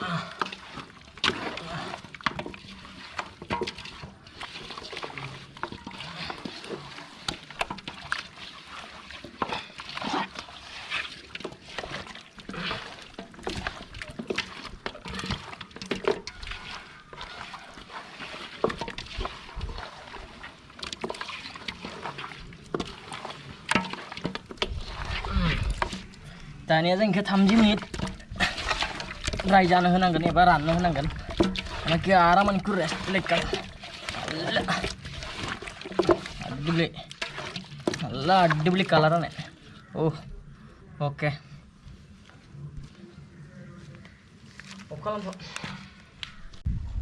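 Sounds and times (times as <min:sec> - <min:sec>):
hands squelching in marinade: 0:00.0 - 0:40.7, 0:41.9 - 0:46.6.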